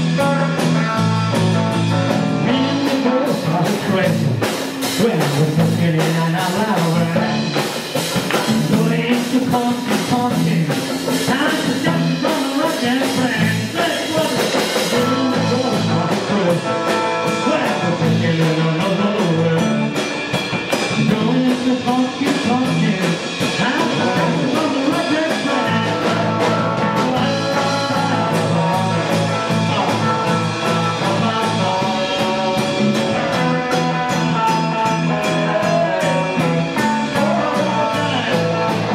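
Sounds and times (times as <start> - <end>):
country band playing: 0.0 - 38.9
man singing: 0.0 - 38.9.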